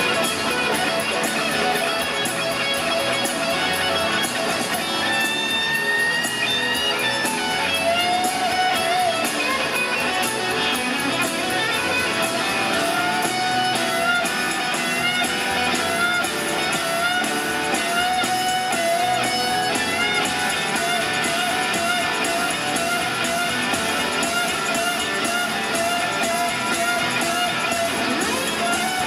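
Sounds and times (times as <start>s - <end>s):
electric guitar solo: 0.0s - 29.0s
live rock band: 0.0s - 29.0s
steady drum beat: 0.0s - 29.0s.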